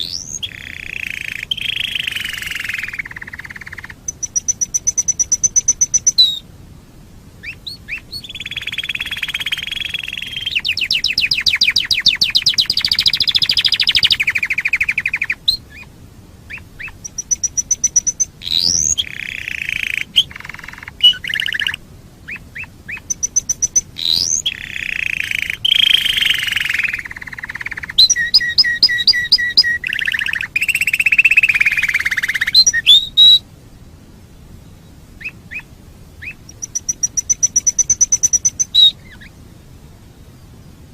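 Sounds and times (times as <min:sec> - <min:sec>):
canary singing trills: 0:00.0 - 0:06.4, 0:07.4 - 0:15.9, 0:16.5 - 0:33.4, 0:34.6 - 0:39.6.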